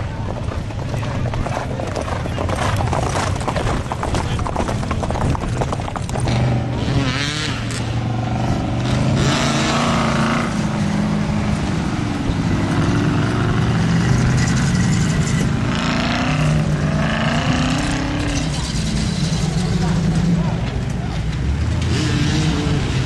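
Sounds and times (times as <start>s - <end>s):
army truck engine: 0.0s - 23.0s
off-road vehicles driving past: 0.0s - 23.0s.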